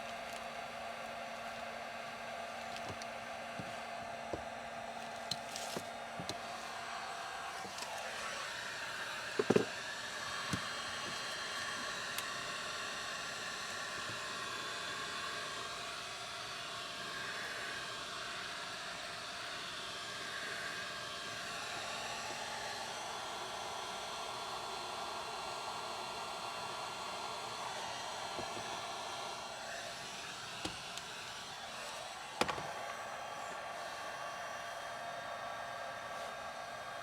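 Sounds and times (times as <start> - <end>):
heat gun blowing: 1.5 - 37.0.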